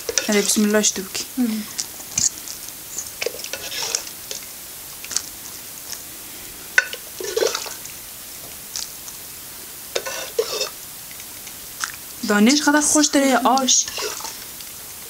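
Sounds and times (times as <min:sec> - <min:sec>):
soft wet splashes of stew: 0:01.6 - 0:15.0.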